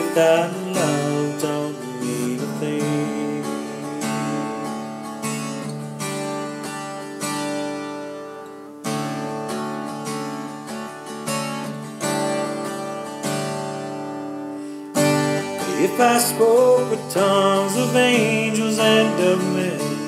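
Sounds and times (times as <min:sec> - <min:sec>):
guitar chords ringing: 0:00.0 - 0:20.0.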